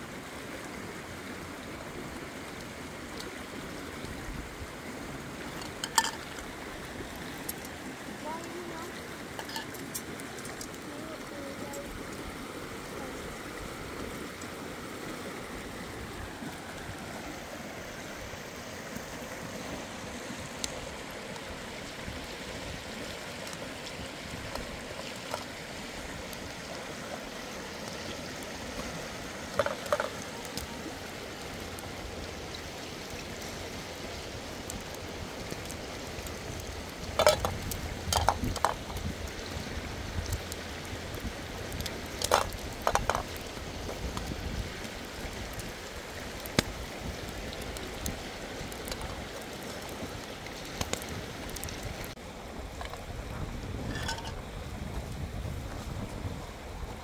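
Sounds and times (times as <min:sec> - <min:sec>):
stream running water: 0:00.0 - 0:57.0.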